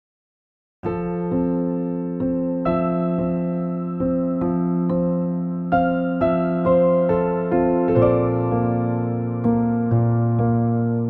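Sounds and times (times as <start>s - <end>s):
keyboard notes: 0.9s - 11.0s.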